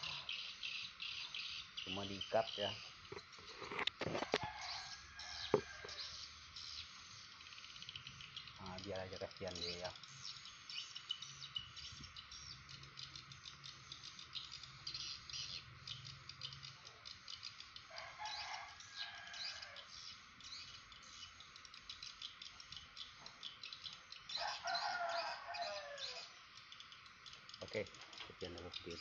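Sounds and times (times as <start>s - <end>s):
faint birds chirping: 0.0s - 29.0s
steady background hiss: 0.0s - 29.0s.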